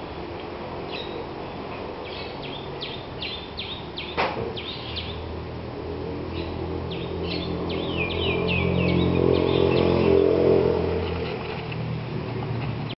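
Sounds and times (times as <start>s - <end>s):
small birds chirping: 0.0s - 5.4s, 6.2s - 11.6s
low engine hum: 0.0s - 13.0s.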